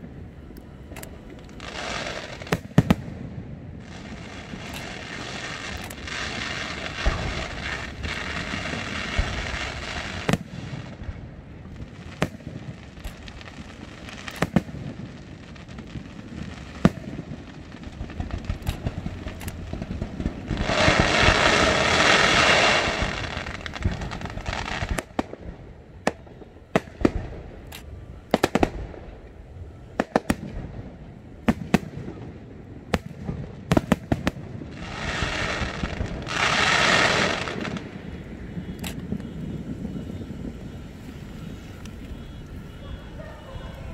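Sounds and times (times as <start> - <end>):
fireworks bangs: 0.0 - 43.9
fireworks crackling hiss: 0.0 - 43.9.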